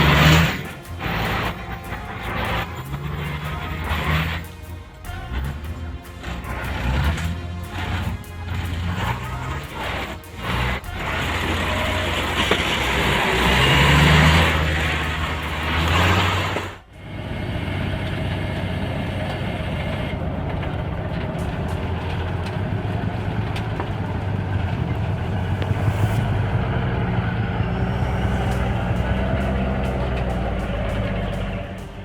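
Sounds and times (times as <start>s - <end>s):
heavy vehicle engines running: 0.0s - 32.0s.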